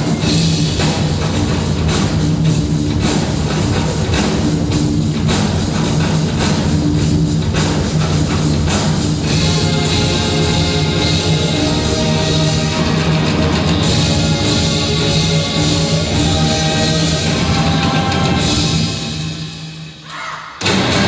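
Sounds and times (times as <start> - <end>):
rock music: 0.0 - 19.9, 20.6 - 21.0
drum kit beating: 0.0 - 21.0.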